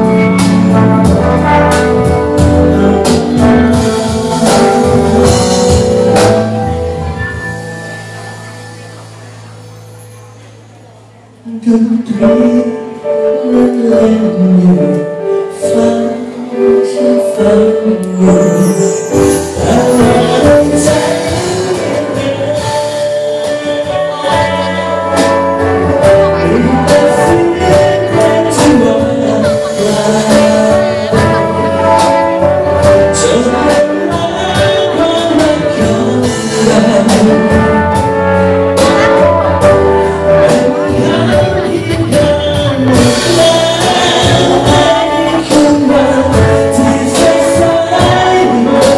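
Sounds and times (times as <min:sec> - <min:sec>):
man singing: 0:00.0 - 0:08.2, 0:11.4 - 0:48.9
live band playing: 0:00.0 - 0:48.9.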